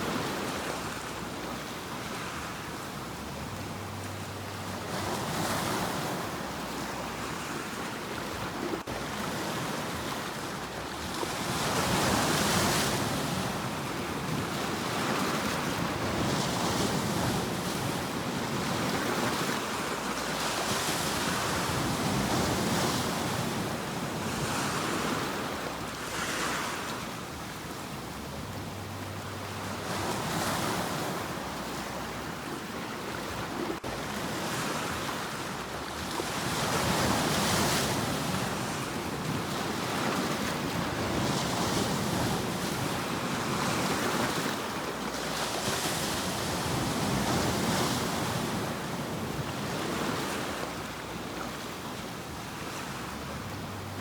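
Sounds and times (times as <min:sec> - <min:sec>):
sea waves surging: 0:00.0 - 0:54.0.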